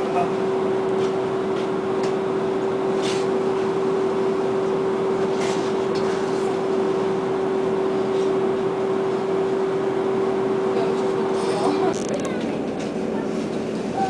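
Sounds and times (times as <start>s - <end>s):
mid-pitched hum: 0.0s - 14.0s.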